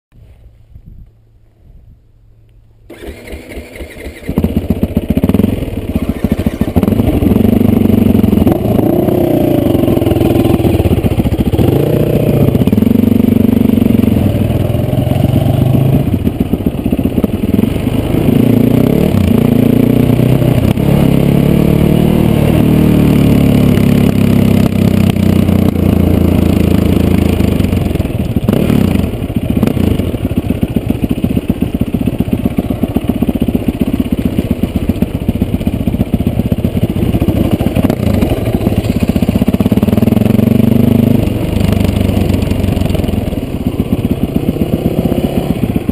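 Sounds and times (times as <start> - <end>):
motorcycle engine revving: 2.9 - 45.9.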